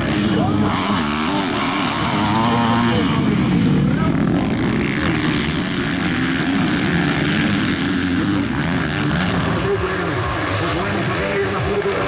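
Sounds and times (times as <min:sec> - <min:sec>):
motocross motorcycle engines revving: 0:00.0 - 0:12.0.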